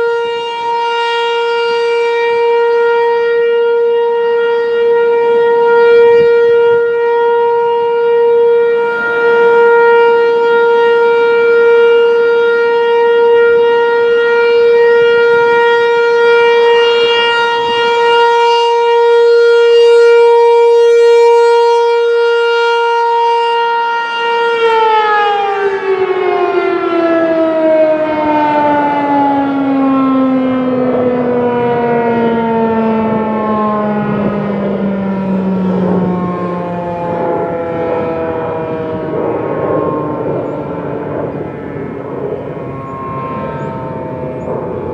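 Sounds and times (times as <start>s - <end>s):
warning siren alert tone: 0.0s - 44.9s.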